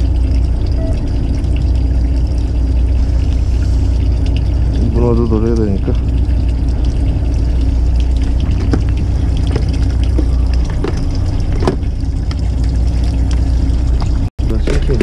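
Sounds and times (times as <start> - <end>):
water sloshing along hull: 0.0 - 14.3
boat engine droning: 0.0 - 15.0.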